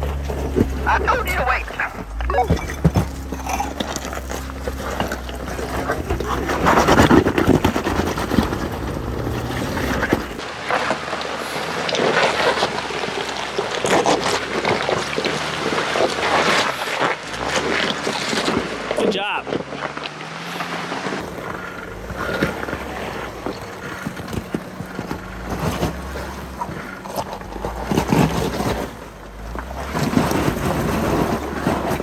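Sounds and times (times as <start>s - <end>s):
low hum: 0.0s - 29.8s
off-road vehicle engine: 0.0s - 32.0s
vehicle knocking and jostling: 0.0s - 32.0s.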